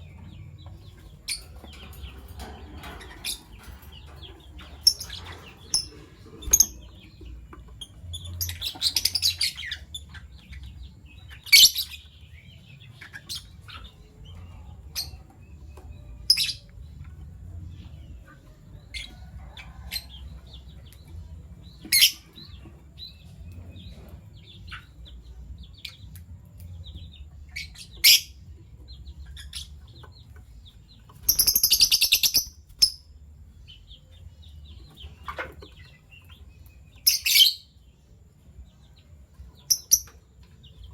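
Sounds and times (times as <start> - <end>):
lovebirds chirping: 0.0 - 40.9.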